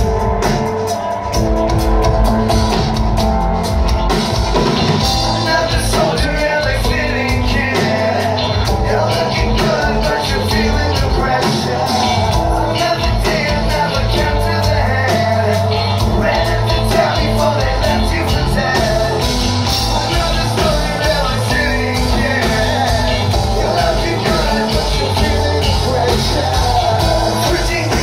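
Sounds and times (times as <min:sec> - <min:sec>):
bass guitar: 0:00.0 - 0:28.0
drums: 0:00.0 - 0:28.0
person singing: 0:05.0 - 0:28.0.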